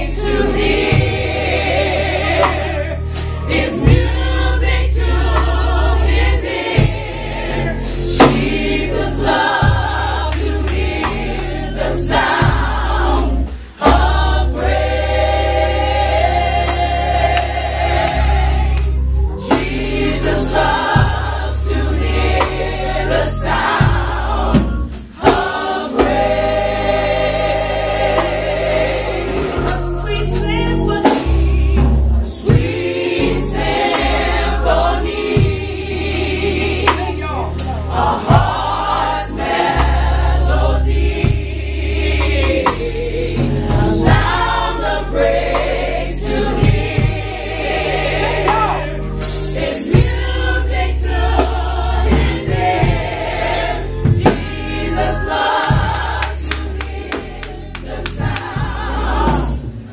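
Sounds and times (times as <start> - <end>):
bass and drums: 0.0 - 59.9
gospel choir singing: 0.0 - 59.9.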